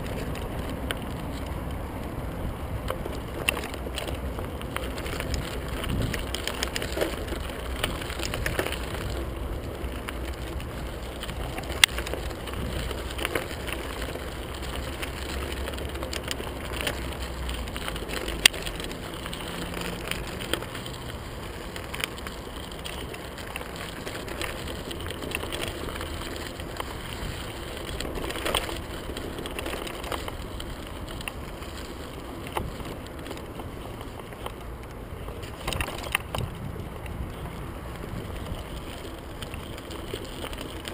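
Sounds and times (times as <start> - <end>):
bike rattling and knocking: 0.0 - 40.9
tyres crunching on gravel: 0.0 - 40.9
wind rumble on microphone: 0.0 - 40.9.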